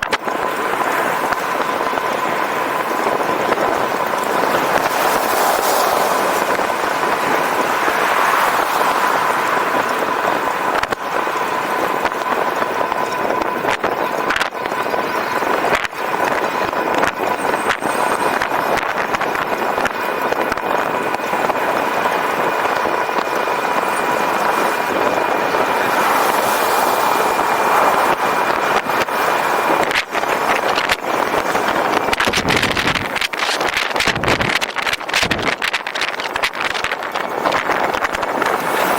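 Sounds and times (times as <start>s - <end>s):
constant high whine: 0.0s - 38.9s
wind and road noise: 0.0s - 38.9s.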